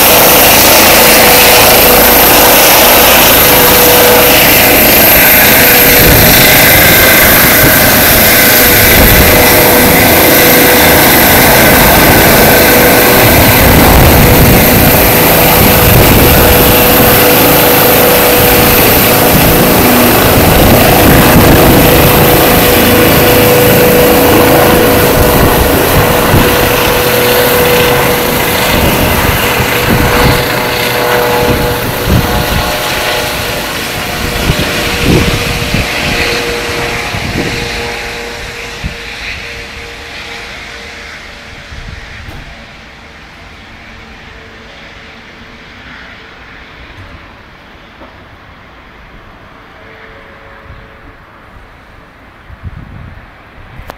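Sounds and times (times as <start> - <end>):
helicopter rotor and turbine whine: 0.0 - 53.9.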